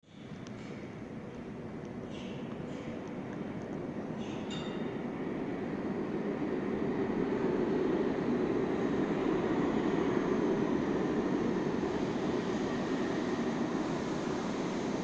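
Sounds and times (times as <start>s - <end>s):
subway train rumbling: 0.1s - 15.0s.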